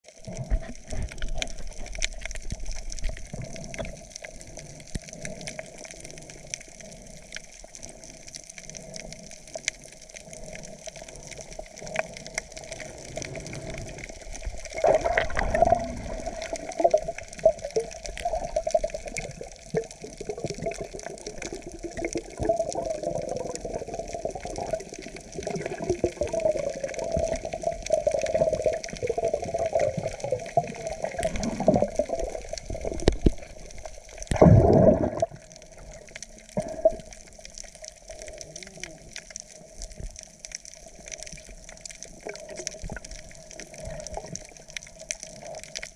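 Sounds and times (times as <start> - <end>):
underwater bubbling: 0.0 - 45.9
small underwater clicks: 0.1 - 45.9.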